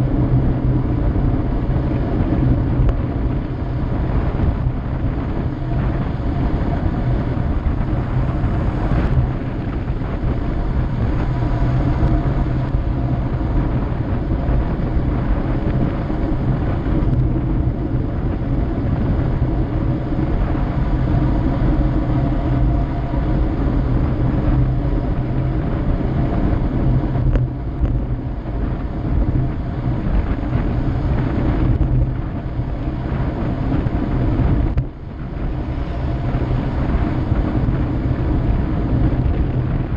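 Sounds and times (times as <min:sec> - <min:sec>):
loud wind noise on microphone: 0:00.0 - 0:39.9.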